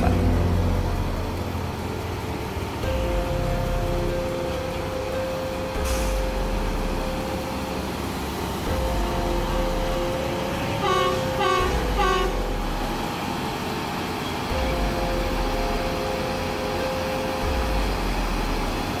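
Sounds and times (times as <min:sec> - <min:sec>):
diesel machine droning: 0:00.0 - 0:19.0.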